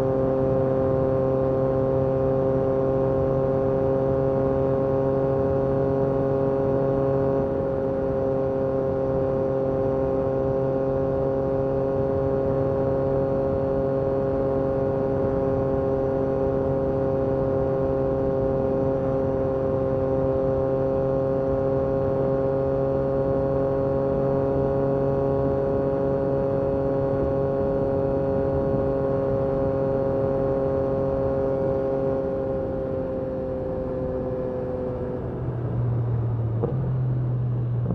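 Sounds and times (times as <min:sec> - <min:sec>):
motorcycle engine cruising: 0:00.0 - 0:37.9.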